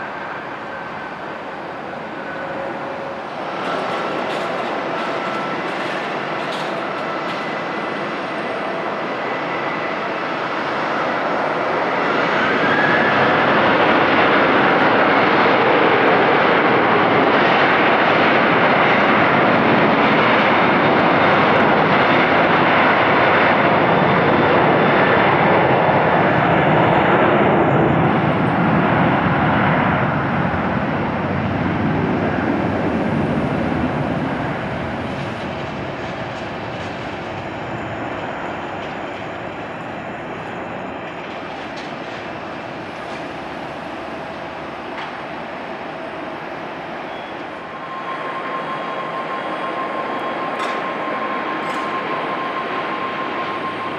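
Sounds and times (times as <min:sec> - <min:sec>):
jet engines at takeoff thrust: 0:00.0 - 0:53.9.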